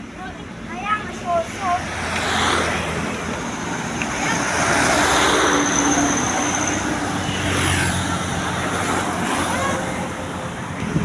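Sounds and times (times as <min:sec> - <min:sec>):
vehicle passing: 0:01.5 - 0:11.0.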